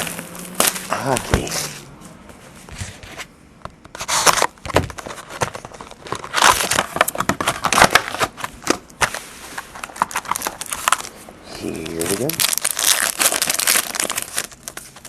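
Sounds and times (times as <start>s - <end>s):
plastic wrapping crackling: 0.0s - 1.8s, 4.0s - 15.0s.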